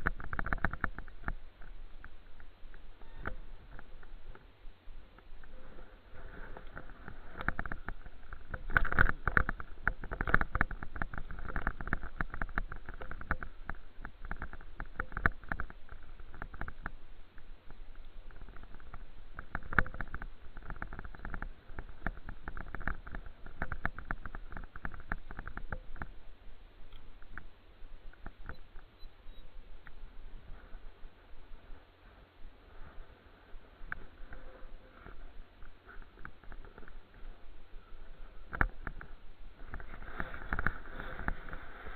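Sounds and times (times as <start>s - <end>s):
bicycle rattling and clicking: 0.0s - 31.8s, 32.7s - 41.9s.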